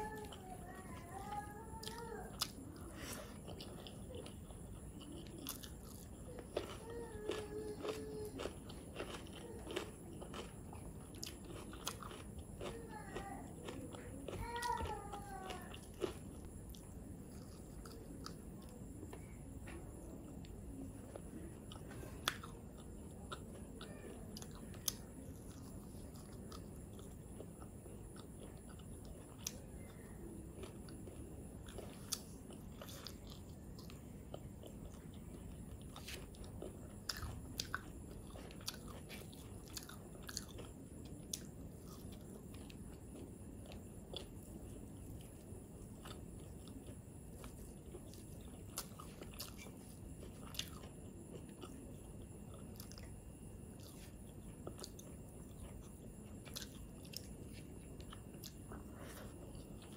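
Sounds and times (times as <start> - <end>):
person chewing: 0.2 - 59.9.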